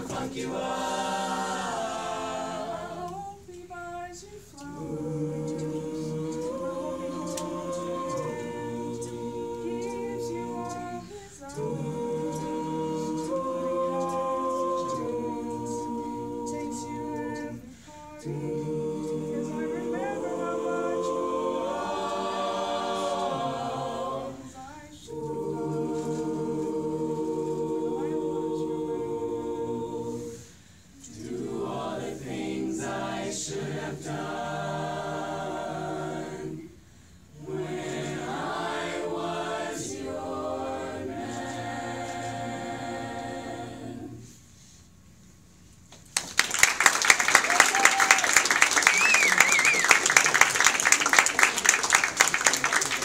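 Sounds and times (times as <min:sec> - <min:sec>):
choir singing a cappella: 0:00.0 - 0:45.6.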